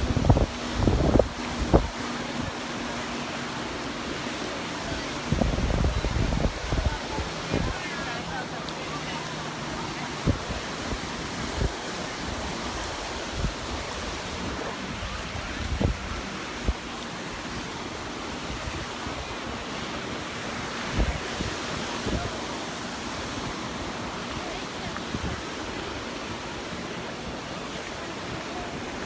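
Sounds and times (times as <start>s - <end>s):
wind buffeting microphone: 0.0s - 26.6s
surf washing onto beach: 0.0s - 29.0s.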